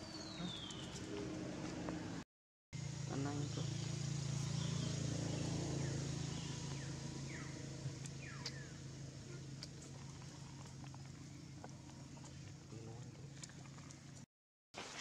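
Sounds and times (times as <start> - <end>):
low engine hum: 0.1 - 2.2, 2.8 - 14.3.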